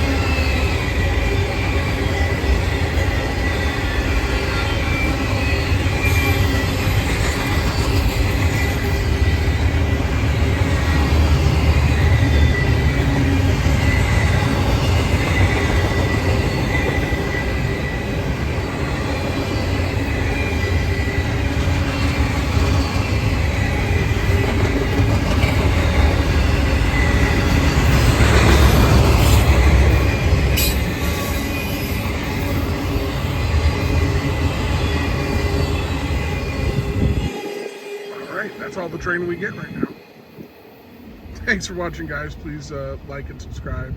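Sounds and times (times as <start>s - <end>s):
high wheel squeal: 0.0s - 39.9s
train wheels rumbling on rail: 0.0s - 43.9s.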